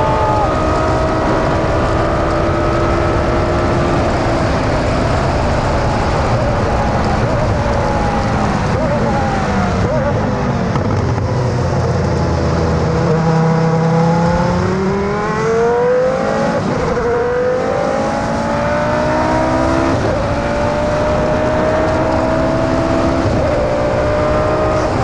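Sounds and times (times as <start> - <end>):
racing car engine accelerating: 0.0 - 25.0.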